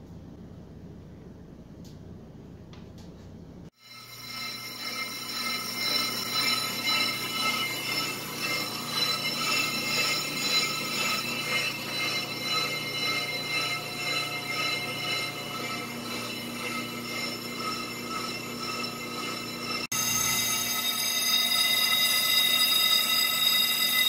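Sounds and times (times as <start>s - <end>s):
low motor hum: 0.0s - 21.0s
high squealing ring of cutting: 3.8s - 24.0s.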